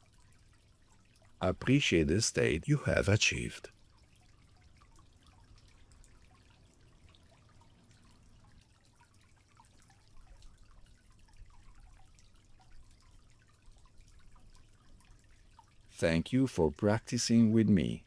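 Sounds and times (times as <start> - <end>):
faint trickling water: 0.0 - 18.0
water drips and plinks: 0.0 - 18.0.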